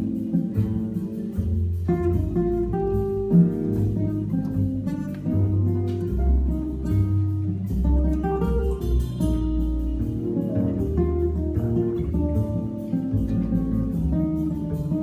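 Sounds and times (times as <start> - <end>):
fingerstyle jazz guitar: 0.0 - 15.0.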